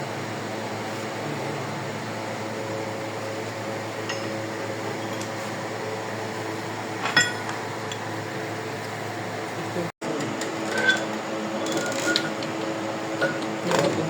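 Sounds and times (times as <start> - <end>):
mechanical fan hum: 0.0 - 14.0.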